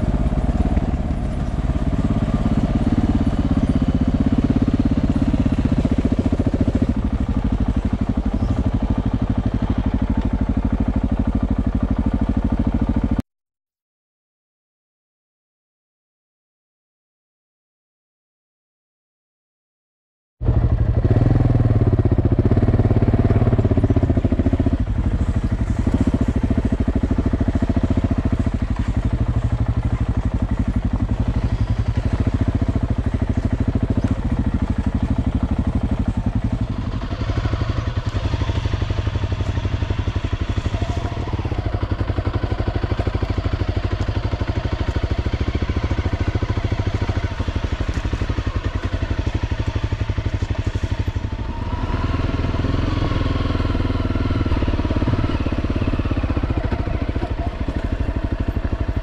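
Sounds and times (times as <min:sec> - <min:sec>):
motorcycle engine running: 0:00.0 - 0:13.2, 0:20.4 - 0:59.0.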